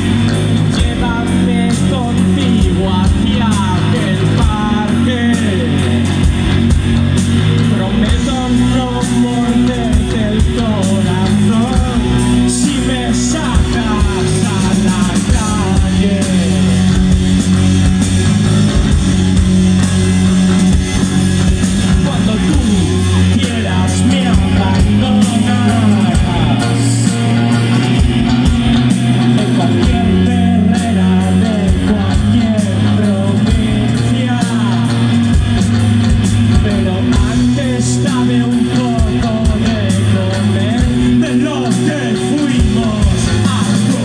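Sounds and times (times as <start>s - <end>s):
man singing: 0.0s - 18.0s, 18.7s - 44.0s
drums: 0.0s - 44.0s
electric bass: 0.0s - 44.0s
electric guitar: 0.0s - 44.0s.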